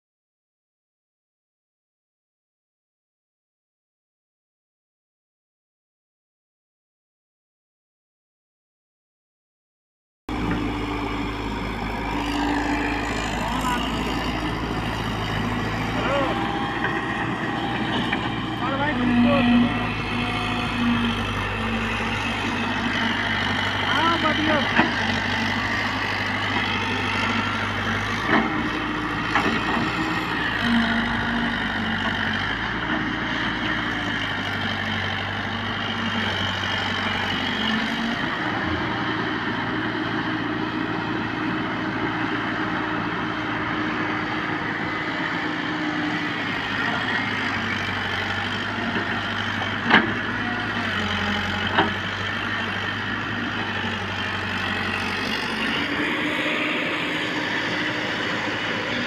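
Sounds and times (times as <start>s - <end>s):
excavator diesel engine running: 10.3s - 59.0s.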